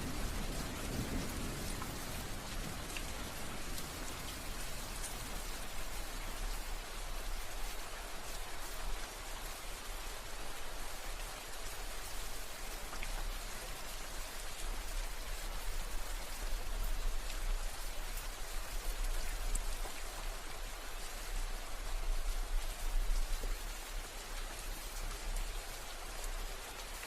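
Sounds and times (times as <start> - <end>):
rain hiss: 0.0 - 27.0.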